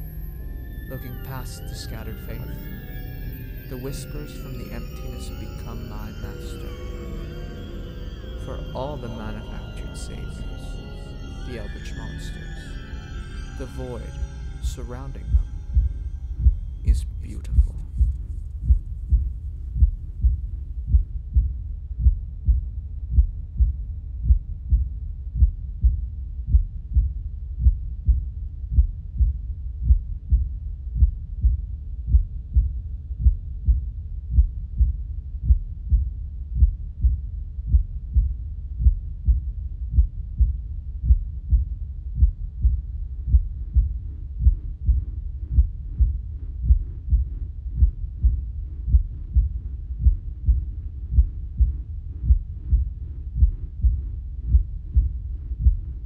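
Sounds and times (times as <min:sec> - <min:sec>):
low hum: 0:00.0 - 0:28.2, 0:35.4 - 0:56.0
low pulsing thuds: 0:04.6 - 0:56.0.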